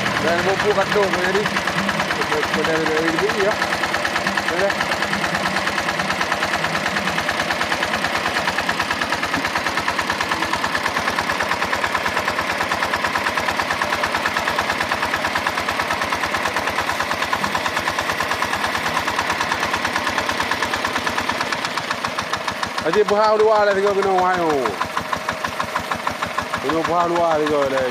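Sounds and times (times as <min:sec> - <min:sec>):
water pump diesel engine running: 0:00.0 - 0:27.9.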